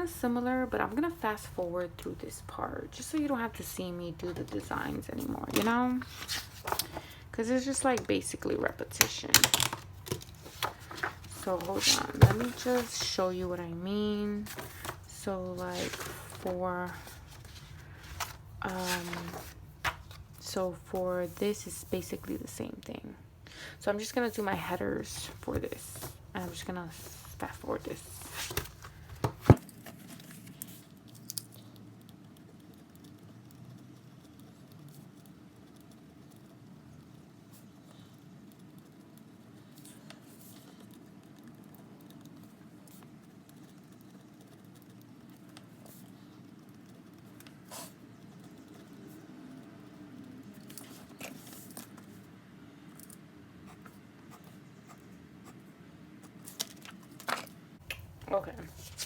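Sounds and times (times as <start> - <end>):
pen and paper handling: 0.0 - 22.6, 24.0 - 36.6, 37.5 - 49.3, 50.5 - 52.2, 56.2 - 59.0
faint room noise: 0.0 - 59.0.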